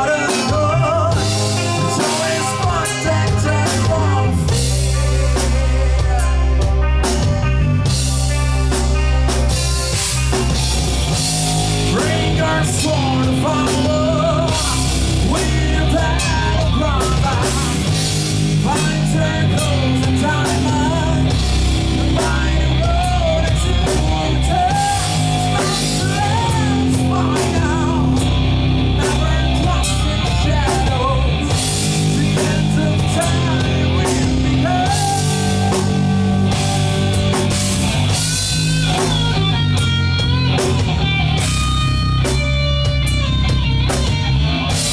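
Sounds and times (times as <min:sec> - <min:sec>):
electric guitar lead line: 0:00.0 - 0:44.9
rock band playing live: 0:00.0 - 0:44.9.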